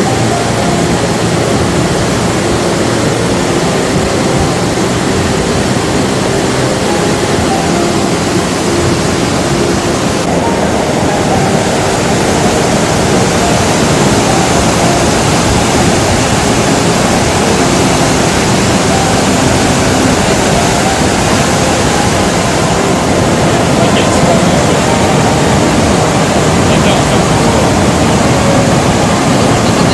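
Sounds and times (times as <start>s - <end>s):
torrent of rushing water: 0.0s - 29.9s.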